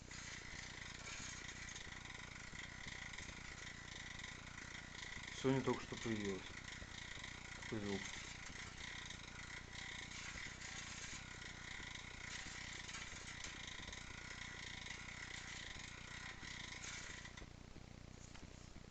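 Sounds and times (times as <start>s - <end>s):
light knocking from rear hub: 0.0s - 17.5s
bicycle drivetrain running: 0.0s - 18.9s.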